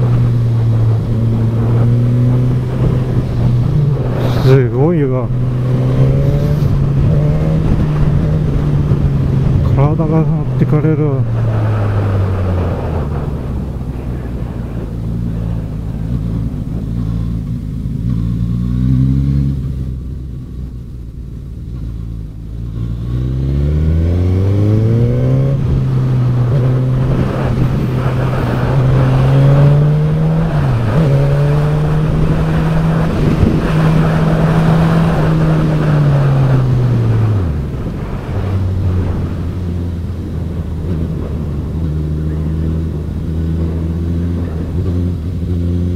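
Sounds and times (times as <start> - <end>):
wind rush: 0.0 - 18.2, 23.1 - 45.9
motorcycle engine revving: 0.0 - 20.8, 21.7 - 45.9.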